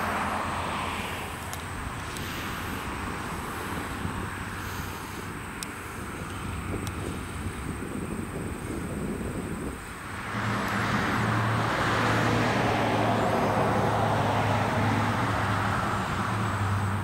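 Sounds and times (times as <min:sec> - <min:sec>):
road noise rushing: 0:00.0 - 0:17.0
vehicle engine hum: 0:00.0 - 0:17.0.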